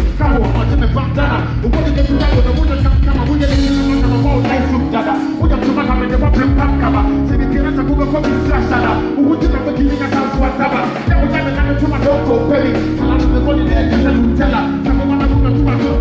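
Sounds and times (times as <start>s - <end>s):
bass line: 0.0s - 16.0s
live band playing: 0.0s - 16.0s.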